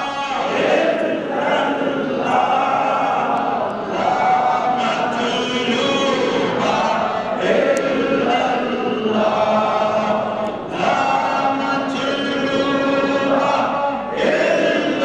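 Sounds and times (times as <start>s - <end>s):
men chanting in long notes: 0.0s - 15.0s.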